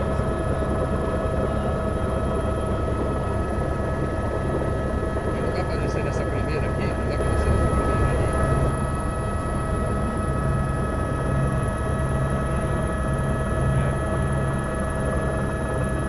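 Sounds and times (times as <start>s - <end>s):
helicopter rotor drone: 0.0s - 16.0s
high engine whine: 0.0s - 16.0s.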